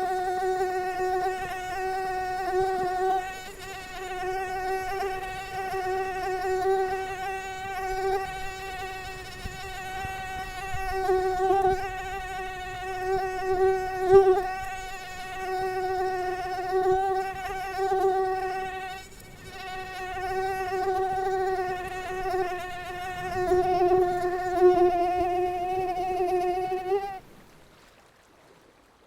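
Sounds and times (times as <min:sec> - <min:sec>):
mosquito whining hum: 0:00.0 - 0:27.2.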